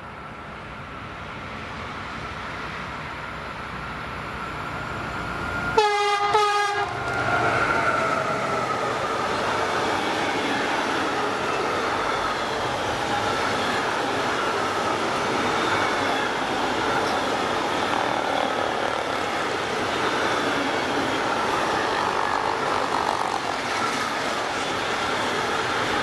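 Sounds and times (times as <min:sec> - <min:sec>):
train wheels rushing on rail: 0:00.0 - 0:26.0.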